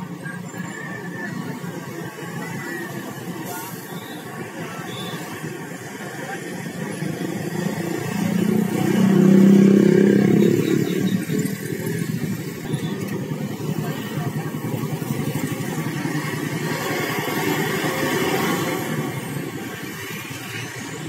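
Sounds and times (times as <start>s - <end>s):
vehicle engines running: 0.0s - 21.0s.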